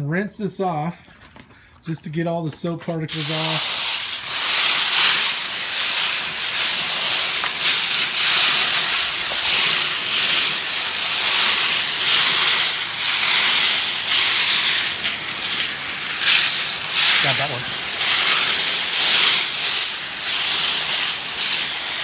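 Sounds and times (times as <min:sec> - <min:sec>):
hose nozzle spraying water: 0:03.1 - 0:22.0.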